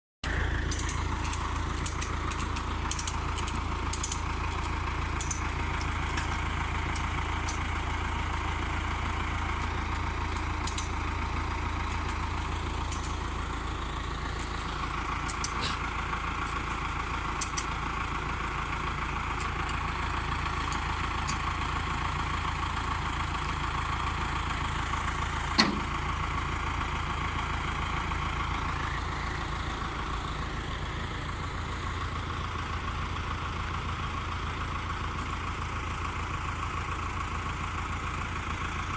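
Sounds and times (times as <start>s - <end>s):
vehicle engine humming: 0.2s - 38.9s.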